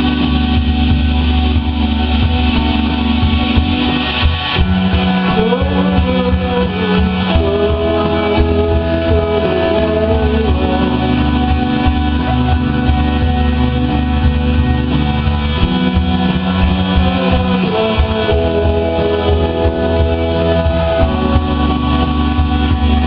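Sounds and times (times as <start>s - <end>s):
electric guitar: 0.0s - 23.0s
rock band playing live: 0.0s - 23.0s.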